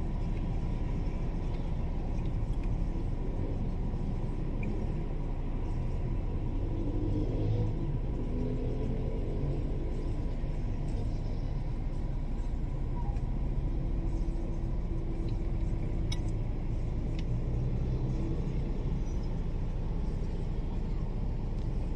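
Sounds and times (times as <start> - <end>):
car rumble inside cabin: 0.0 - 21.9.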